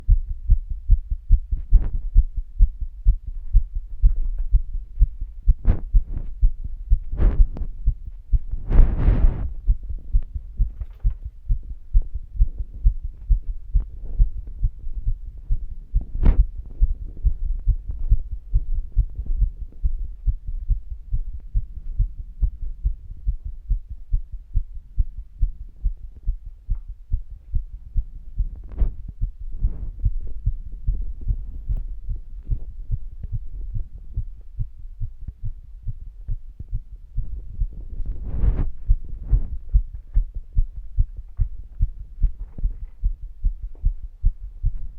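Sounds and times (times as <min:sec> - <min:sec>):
heartbeat: 0:00.0 - 0:44.9.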